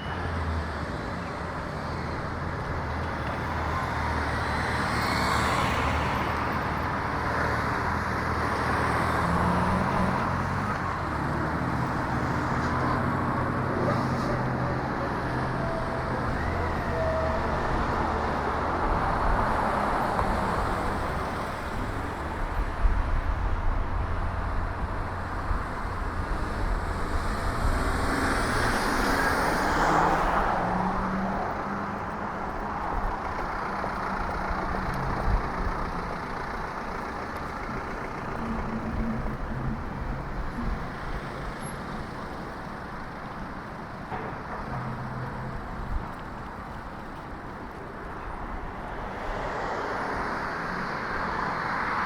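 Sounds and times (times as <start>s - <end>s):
motor vehicles on road: 0.0s - 52.0s.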